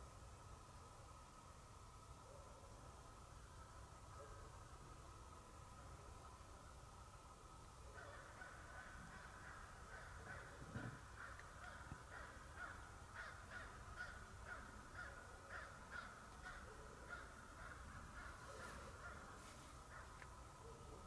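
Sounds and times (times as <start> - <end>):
faint distant bird calls: 0.0 - 21.0.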